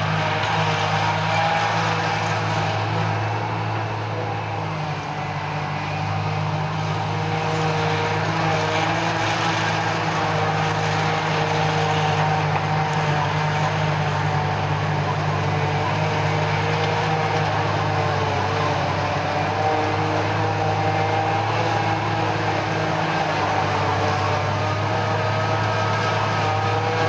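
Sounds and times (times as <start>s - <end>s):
broad rushing noise: 0.0s - 27.0s
engine drone: 0.0s - 27.0s.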